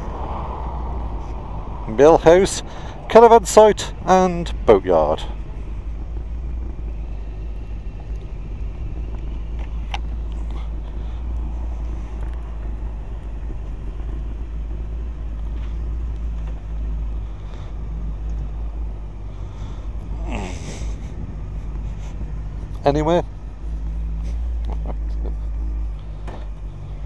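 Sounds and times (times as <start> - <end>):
motorcycle engine running: 1.0 - 27.0.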